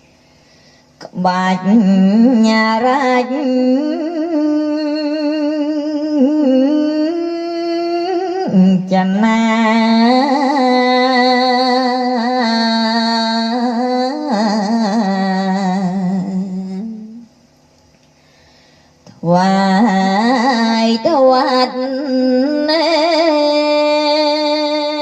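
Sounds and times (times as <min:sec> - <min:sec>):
person singing with vibrato: 0:01.0 - 0:17.3, 0:19.1 - 0:25.0.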